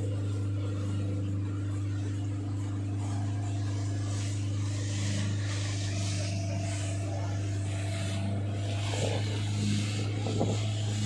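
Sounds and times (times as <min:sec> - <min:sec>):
speedboat engine running: 0:00.0 - 0:11.0.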